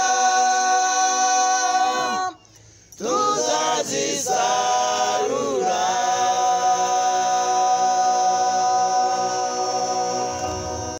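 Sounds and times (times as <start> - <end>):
men singing a cappella: 0.0 - 2.4, 3.0 - 10.9.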